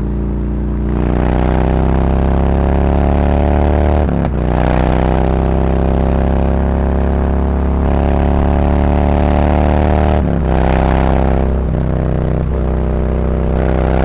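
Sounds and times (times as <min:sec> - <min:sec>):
motorcycle exhaust accelerating: 0:00.0 - 0:14.0.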